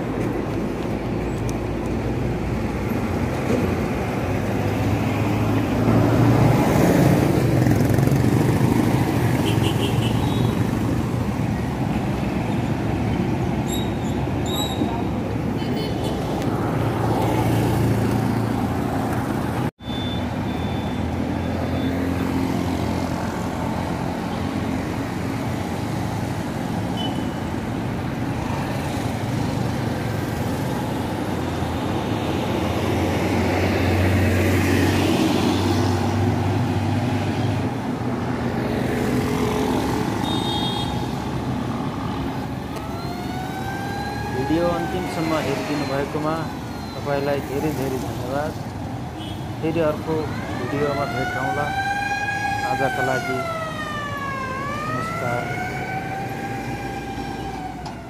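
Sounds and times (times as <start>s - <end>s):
motorcycles passing: 0.0s - 19.7s, 20.3s - 58.0s.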